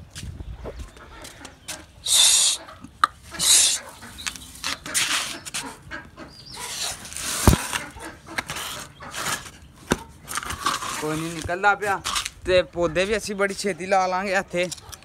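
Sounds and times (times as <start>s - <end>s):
chickens clucking and squawking: 0.4s - 11.2s, 11.9s - 15.0s.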